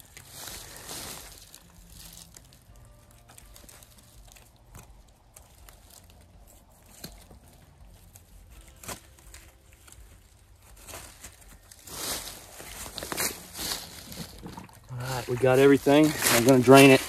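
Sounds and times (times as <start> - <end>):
dry leaves crackling: 0.0 - 17.0
soft rustling and tearing: 0.0 - 17.0.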